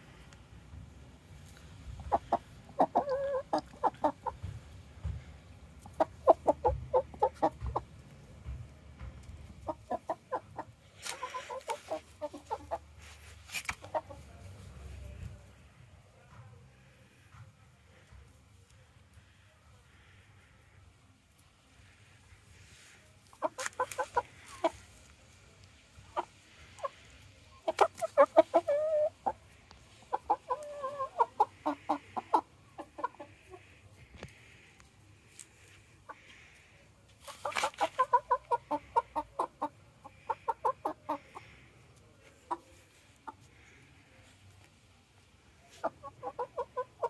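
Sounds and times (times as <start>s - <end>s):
chicken clucking: 1.4s - 15.5s, 21.3s - 44.8s, 45.4s - 47.0s.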